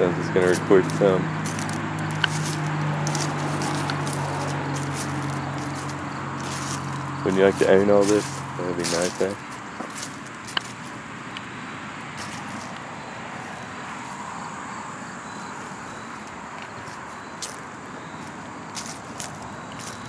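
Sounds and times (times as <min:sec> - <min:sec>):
outdoor ambient noise: 0:00.0 - 0:20.0.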